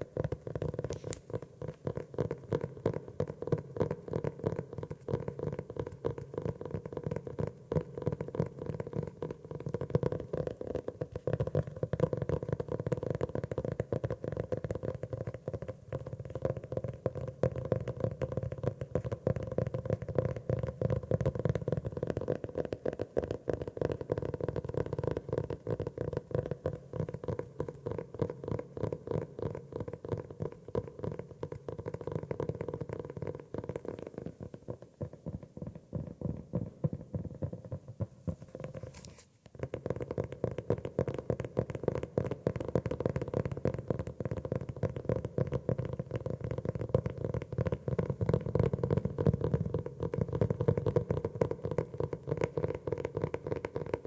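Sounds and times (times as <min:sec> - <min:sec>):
fingers tapping on notebook: 0:00.2 - 0:54.0.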